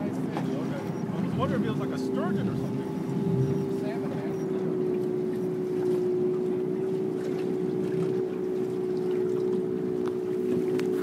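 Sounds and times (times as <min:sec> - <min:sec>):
boat motor running: 0:00.0 - 0:11.0.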